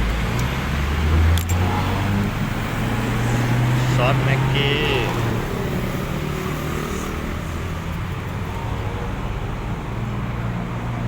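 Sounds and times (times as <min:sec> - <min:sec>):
vehicle engine humming: 0:00.0 - 0:10.6
street traffic: 0:00.0 - 0:11.0.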